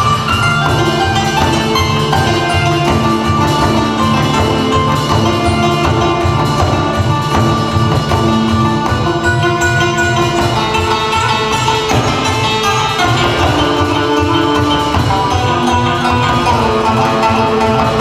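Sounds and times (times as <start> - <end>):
fast hand-drum beat: 0.0 - 18.0
plucked lute: 0.0 - 18.0
plucked zither melody: 0.0 - 18.0.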